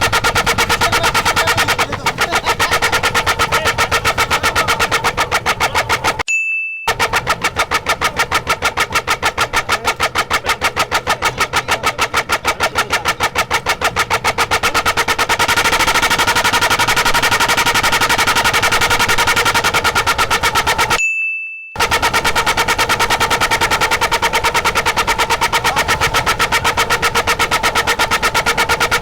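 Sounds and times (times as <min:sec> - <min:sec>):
pulsing multi-tone motorcycle horns: 0:00.0 - 0:06.3, 0:06.9 - 0:21.0, 0:21.8 - 0:29.0.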